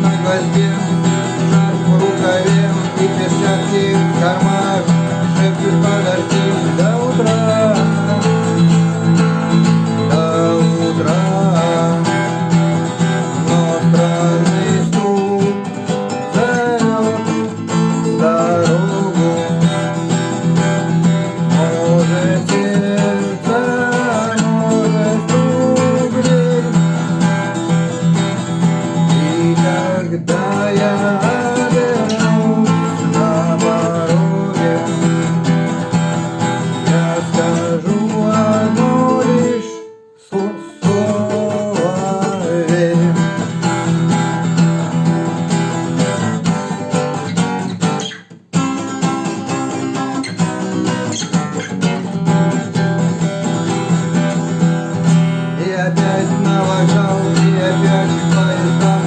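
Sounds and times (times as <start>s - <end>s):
acoustic guitar strumming chords: 0.0s - 59.0s
guitar melody: 0.0s - 59.0s.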